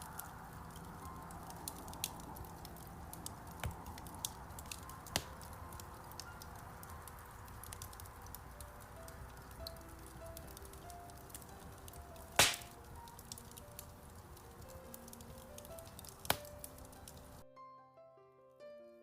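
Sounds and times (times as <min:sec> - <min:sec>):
wood fire crackling and popping: 0:00.0 - 0:17.4
faint piano notes: 0:00.0 - 0:19.0.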